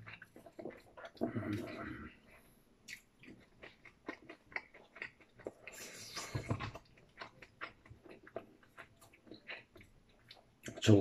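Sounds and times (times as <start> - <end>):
person chewing with mouth smacks: 0.0 - 10.8.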